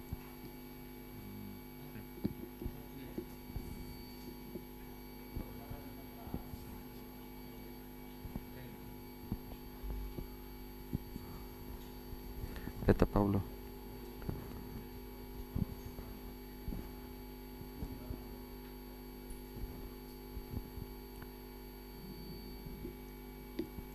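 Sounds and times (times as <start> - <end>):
electrical mains hum: 0.0 - 23.9.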